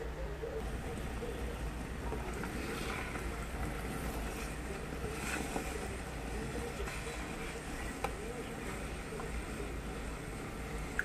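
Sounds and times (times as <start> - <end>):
stew simmering hiss: 0.6 - 11.0.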